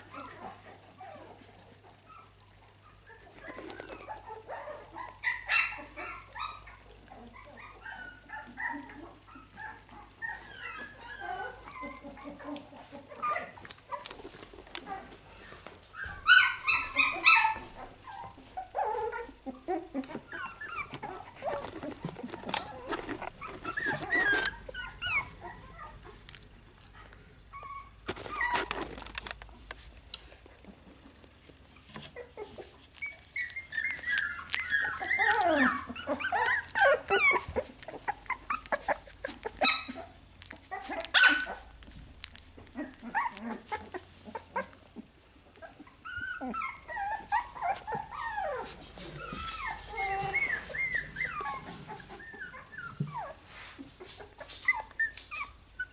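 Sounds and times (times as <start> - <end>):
puppies yelping and whining: 0.0 - 29.8, 30.7 - 55.9.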